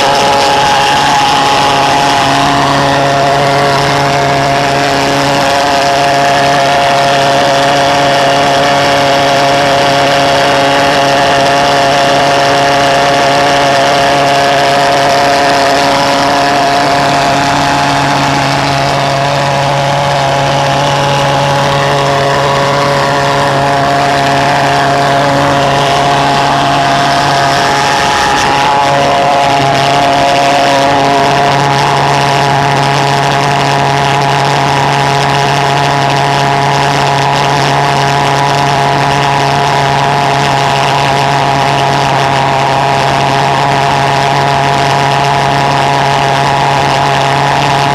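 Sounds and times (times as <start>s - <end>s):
pulse jet engine buzzing drone: 0.0s - 47.9s.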